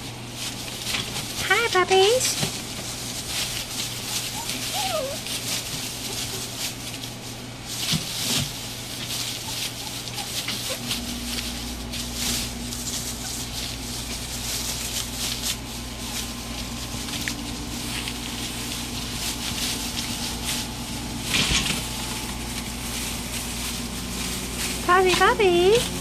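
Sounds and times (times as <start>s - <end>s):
low steady hum: 0.0s - 26.0s
puppies scrambling in paper: 0.0s - 26.0s.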